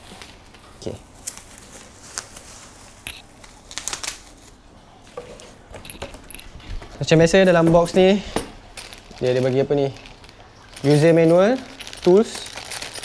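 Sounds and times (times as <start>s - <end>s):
packing rustling in box: 0.0s - 4.6s, 6.9s - 13.0s.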